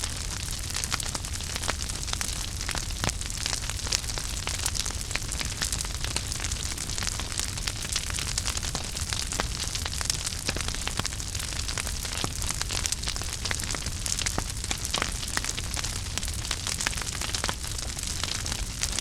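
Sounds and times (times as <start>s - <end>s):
crackles and pops of burning logs: 0.0s - 19.0s
fire hissing and rumbling: 0.0s - 19.0s.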